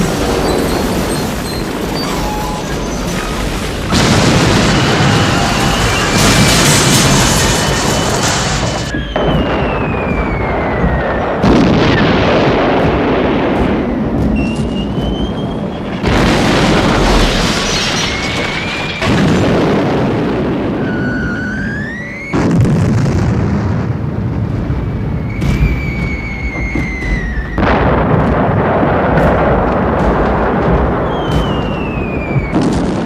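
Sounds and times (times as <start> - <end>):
bombs whistling as they fall: 0.0 - 33.0
continuous rumble: 0.0 - 33.0
explosions with heavy blasts: 0.0 - 33.0.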